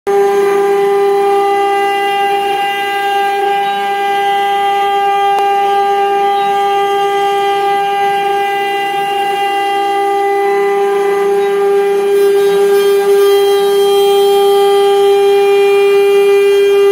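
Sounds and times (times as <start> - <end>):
cnc router whining: 0.1 - 16.9.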